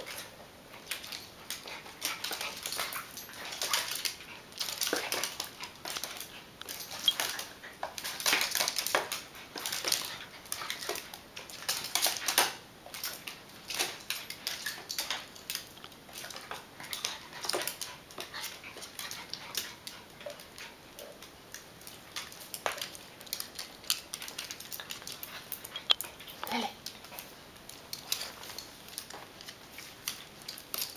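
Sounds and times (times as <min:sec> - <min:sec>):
dog claws scrabbling on wood floor: 0:00.0 - 0:30.9.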